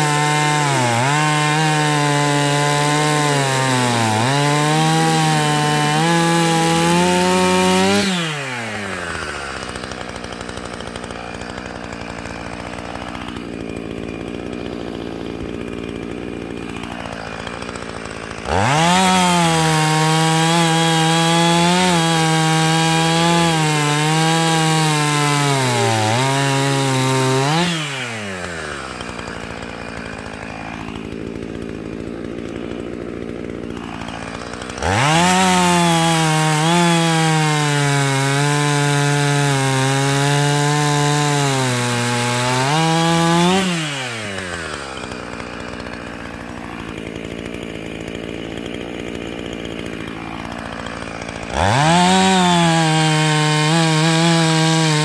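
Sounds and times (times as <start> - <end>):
chainsaw cutting firewood: 0.0 - 55.0.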